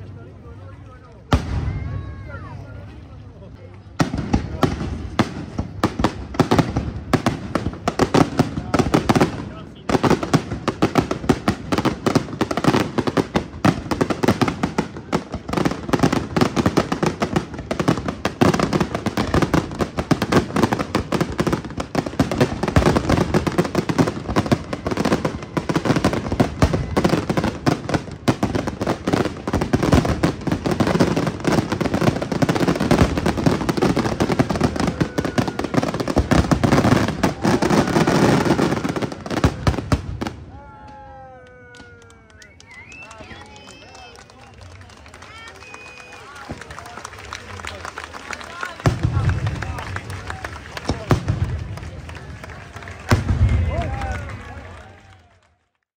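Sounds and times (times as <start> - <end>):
fireworks bursting and crackling: 0.2 - 55.9.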